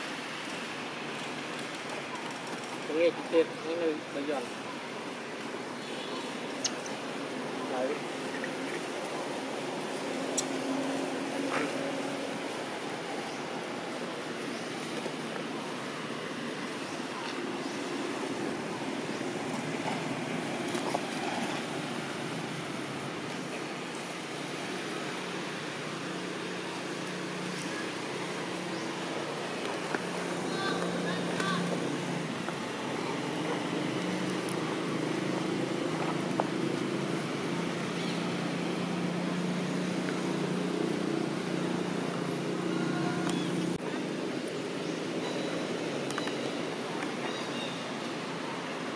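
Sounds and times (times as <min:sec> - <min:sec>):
constant rushing noise: 0:00.0 - 0:48.9.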